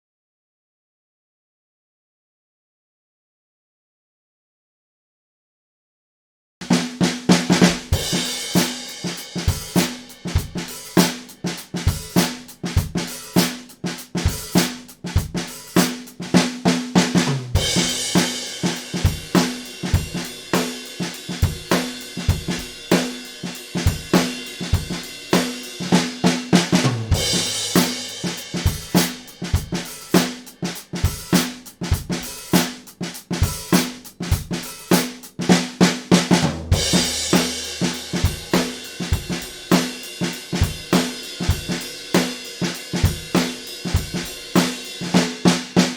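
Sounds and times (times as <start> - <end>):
drum kit steady beat: 6.6 - 45.9.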